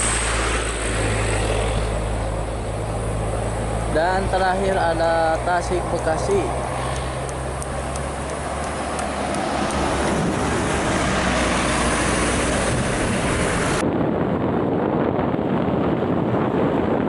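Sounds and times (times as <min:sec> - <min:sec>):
bus passing close by: 0:00.0 - 0:13.8
heavy road traffic: 0:00.0 - 0:17.0
wind buffeting microphone: 0:00.0 - 0:17.0.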